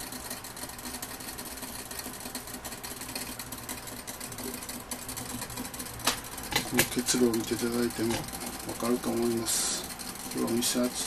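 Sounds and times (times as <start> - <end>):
steam distiller humming and hissing: 0.0 - 11.0.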